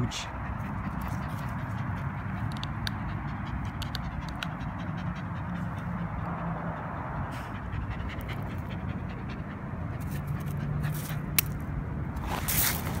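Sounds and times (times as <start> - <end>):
dog panting: 0.2 - 11.4.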